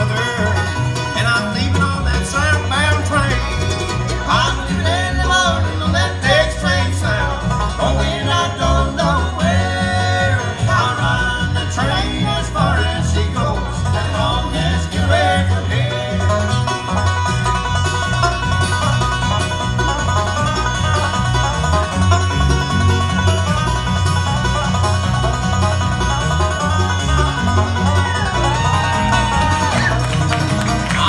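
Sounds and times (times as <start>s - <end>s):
banjo playing: 0.0s - 31.0s
bluegrass band playing: 0.0s - 31.0s.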